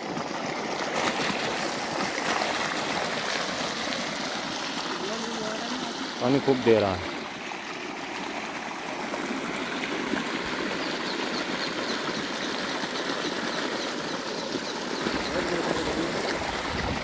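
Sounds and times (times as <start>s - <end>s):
water gushing from pipe: 0.0s - 17.0s.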